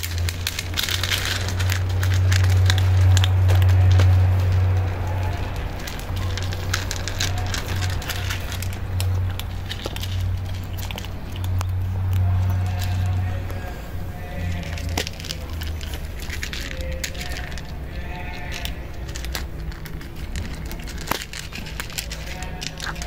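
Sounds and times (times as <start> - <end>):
kittens crunching dry kibble: 0.0 - 23.0.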